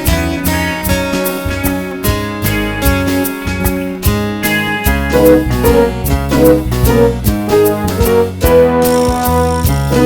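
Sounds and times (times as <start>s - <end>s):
guitar: 0.0s - 10.0s
keyboard: 0.0s - 10.0s
steady beat: 0.0s - 10.0s.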